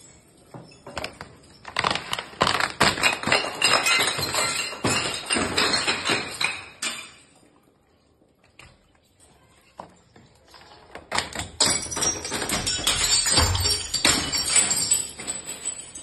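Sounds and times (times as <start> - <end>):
glass bottle tumbling down stairs: 0.0 - 7.4, 9.8 - 16.0.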